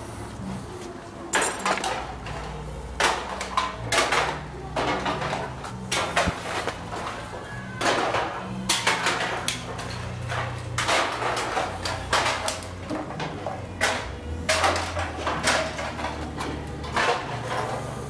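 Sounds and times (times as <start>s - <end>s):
knocks and clatter: 1.3s - 18.0s.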